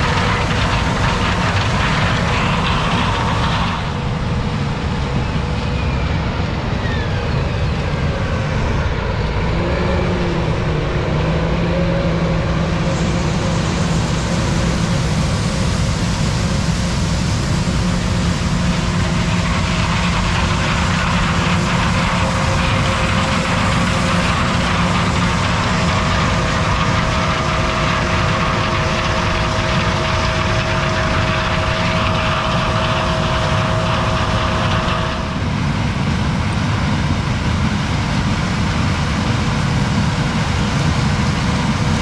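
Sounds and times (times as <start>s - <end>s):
diesel farm machinery running: 0.0s - 42.0s.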